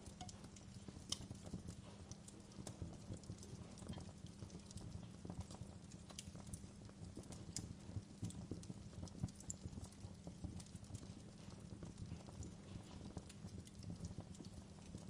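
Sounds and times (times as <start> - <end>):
rumble of burning logs: 0.0 - 15.0
wood fire crackling: 0.0 - 15.0.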